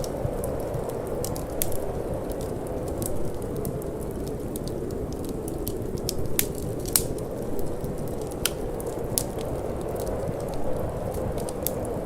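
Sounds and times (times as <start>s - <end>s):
low rush of wind: 0.0s - 12.0s
wood fire crackling: 0.0s - 12.0s.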